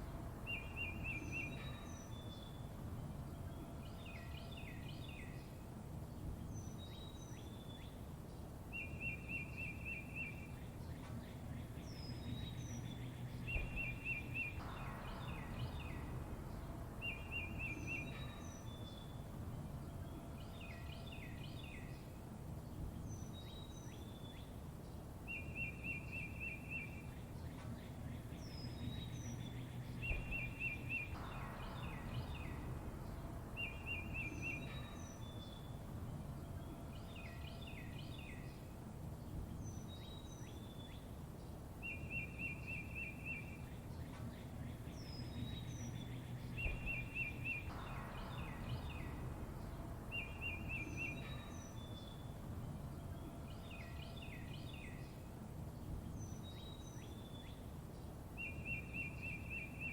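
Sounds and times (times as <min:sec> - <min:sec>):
low background rumble: 0:00.0 - 0:59.9
songbirds chirping: 0:00.0 - 0:59.9.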